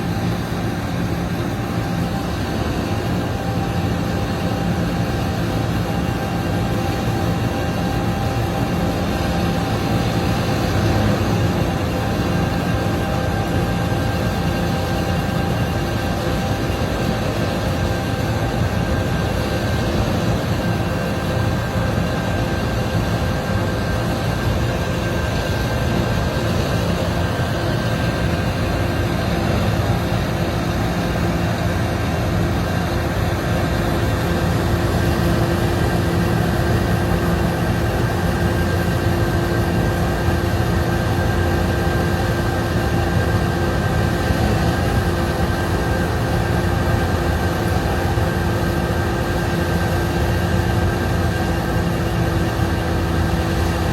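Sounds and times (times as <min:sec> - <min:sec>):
constant humming tones: 0:00.0 - 0:53.9
heavy machinery engine drone: 0:00.0 - 0:53.9.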